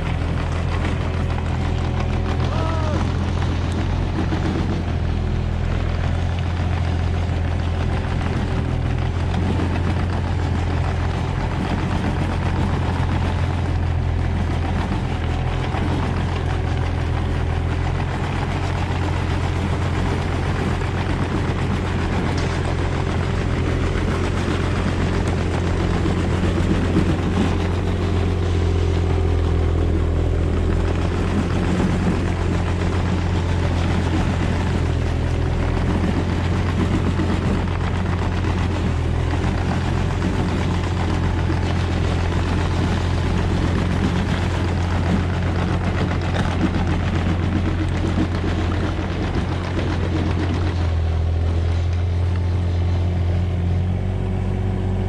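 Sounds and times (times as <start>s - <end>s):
excavator diesel engine humming: 0.0s - 55.0s.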